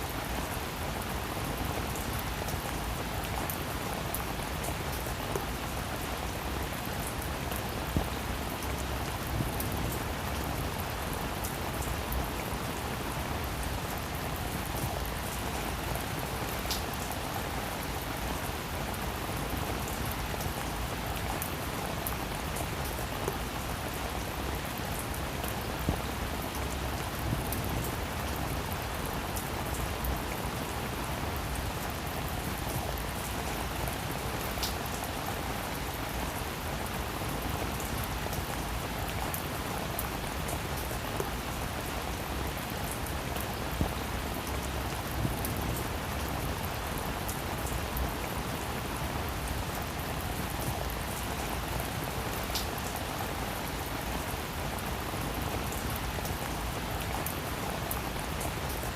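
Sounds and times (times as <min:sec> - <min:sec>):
rain hissing on a roof: 0:00.0 - 0:58.9.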